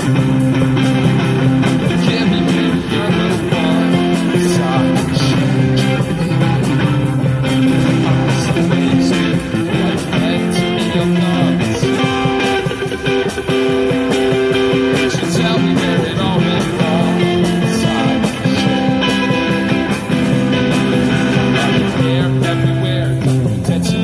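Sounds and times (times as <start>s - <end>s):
guitar: 0.0s - 24.0s.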